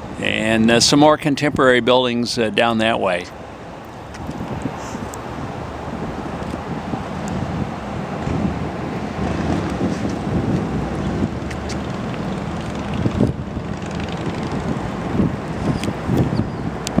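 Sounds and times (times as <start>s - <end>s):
wind buffeting microphone: 3.3s - 17.0s.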